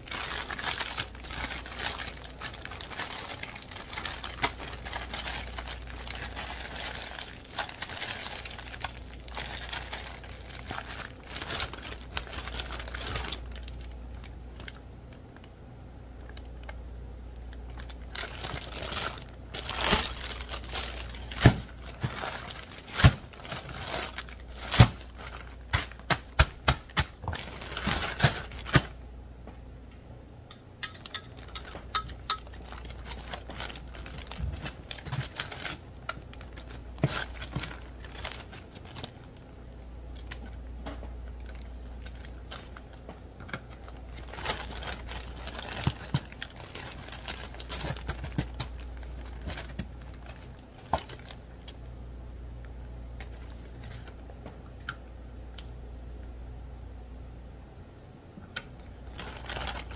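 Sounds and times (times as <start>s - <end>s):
plastic bag crinkling: 0.0s - 15.5s, 16.2s - 29.0s, 30.9s - 40.6s, 41.3s - 51.8s, 59.0s - 59.9s.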